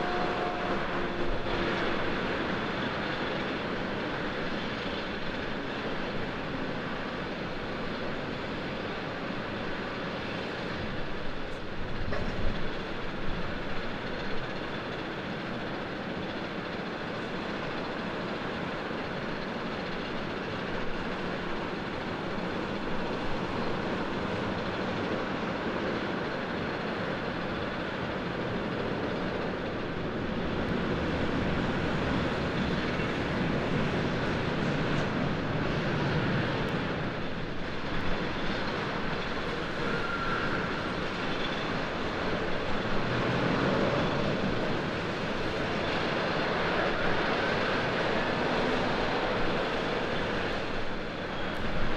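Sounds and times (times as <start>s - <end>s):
aircraft engines running: 0.0s - 51.9s
ground vehicles running: 0.0s - 51.9s.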